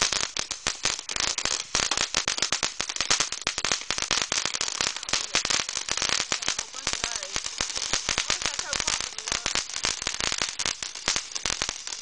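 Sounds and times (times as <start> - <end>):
firecrackers popping: 0.0 - 12.0.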